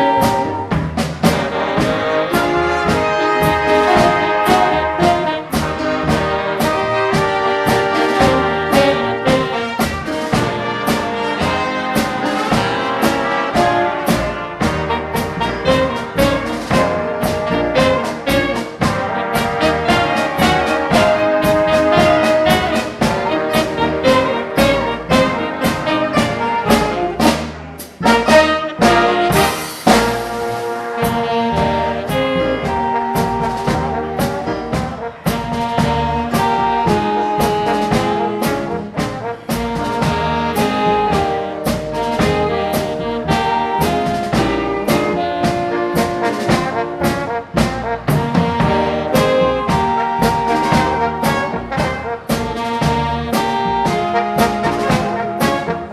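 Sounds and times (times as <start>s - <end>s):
big band playing: 0.0s - 55.9s
drum beat: 0.0s - 55.9s.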